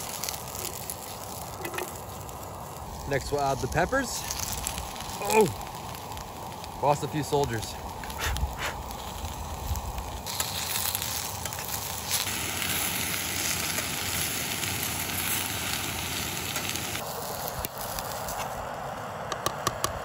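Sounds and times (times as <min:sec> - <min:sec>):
vegetables sizzling in a frying pan: 0:00.0 - 0:18.6.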